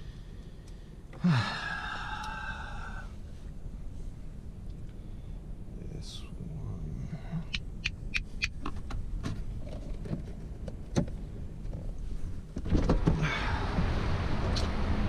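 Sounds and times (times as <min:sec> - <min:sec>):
steady rushing noise with low hum: 0:00.0 - 0:15.0.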